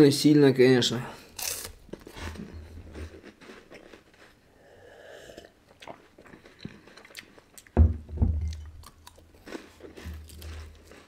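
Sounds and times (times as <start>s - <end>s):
chewing crisp wafer: 1.2s - 7.8s, 8.5s - 11.0s.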